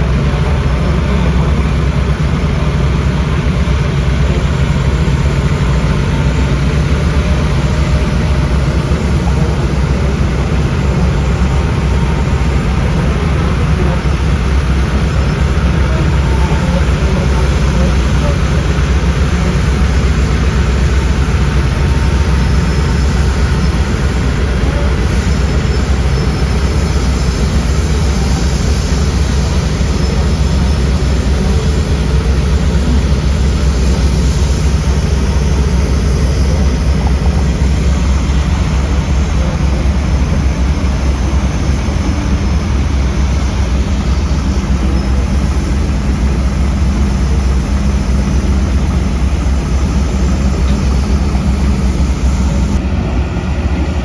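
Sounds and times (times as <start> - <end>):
heavy diesel engine humming: 0.0 - 54.0.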